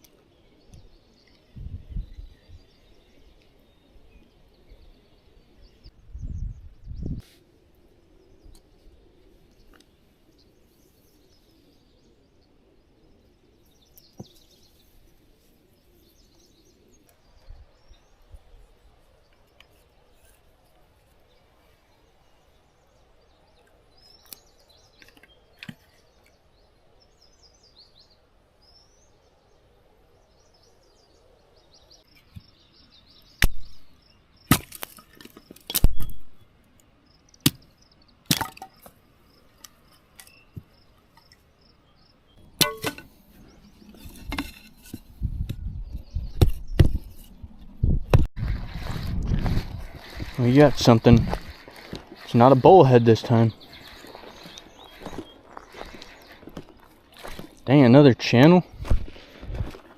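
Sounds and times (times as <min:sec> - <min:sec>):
birds chirping faintly: 0:00.0 - 0:07.2, 0:07.8 - 0:59.9.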